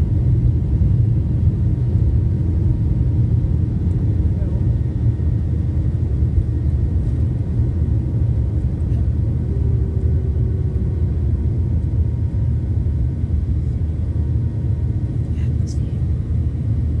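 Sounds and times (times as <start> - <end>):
faint steady whine: 0.0 - 17.0
jet engines deep rumble: 0.0 - 17.0.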